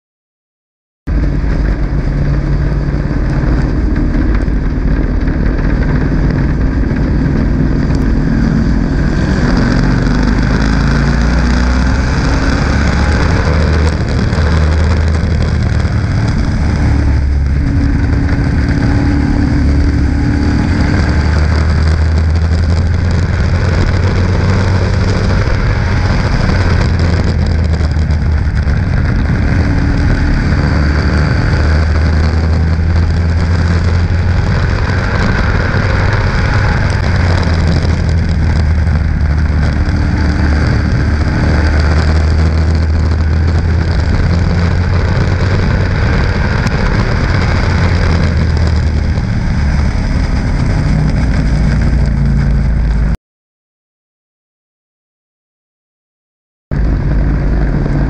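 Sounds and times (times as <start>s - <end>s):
race car engine running: 1.1s - 53.2s, 56.7s - 58.0s.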